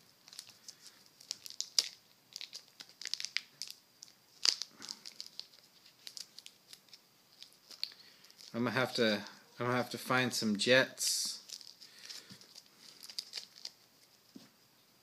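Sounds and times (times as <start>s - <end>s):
packaging crinkling and rustling: 0.2s - 9.4s, 11.3s - 14.2s.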